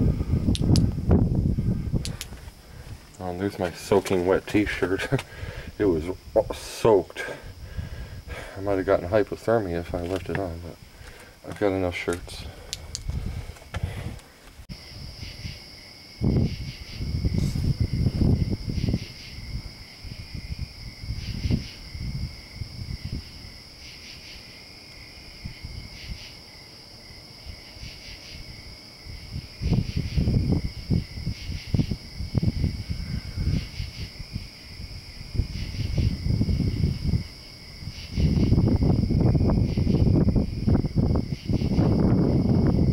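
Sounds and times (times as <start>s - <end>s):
wind buffeting microphone: 0.0s - 23.8s, 25.1s - 26.4s, 27.1s - 42.9s
crickets trilling: 0.0s - 42.9s.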